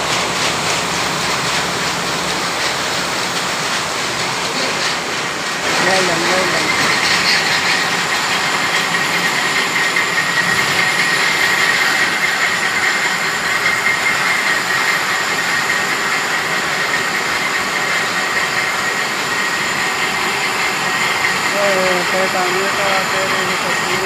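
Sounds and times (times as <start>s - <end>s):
high-pitched machine whine: 0.0s - 24.0s
textile machinery din: 0.0s - 24.0s.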